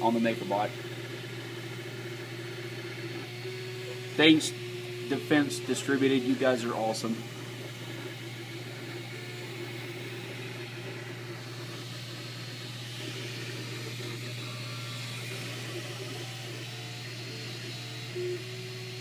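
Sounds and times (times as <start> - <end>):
cooling fans humming: 0.0 - 19.0
stepper motor tones: 0.0 - 19.0.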